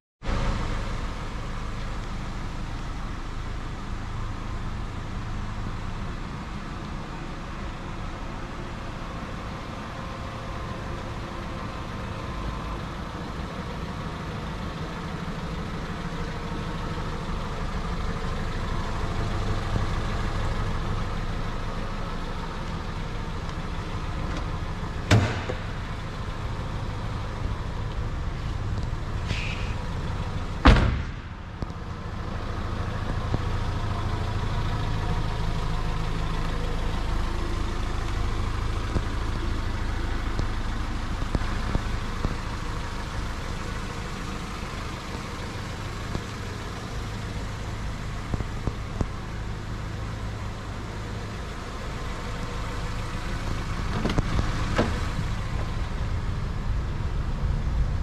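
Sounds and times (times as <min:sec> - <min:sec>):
car engine idling: 0:00.2 - 0:58.0.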